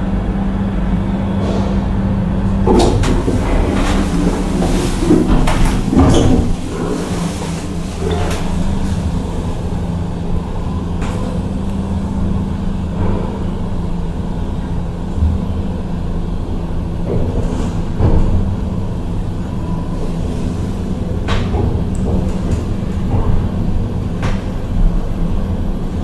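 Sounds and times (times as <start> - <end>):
elevator hum and rumble: 0.0 - 26.0.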